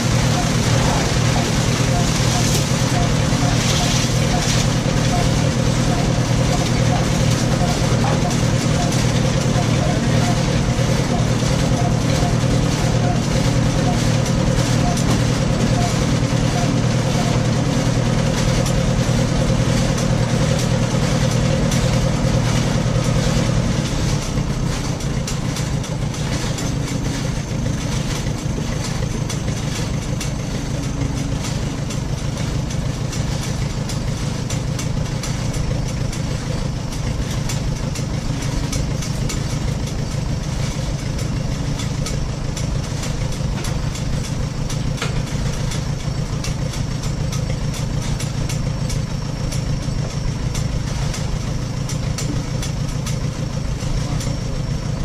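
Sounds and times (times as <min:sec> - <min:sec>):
corn chopper running: 0:00.0 - 0:55.0
tractor engine running: 0:00.0 - 0:55.0.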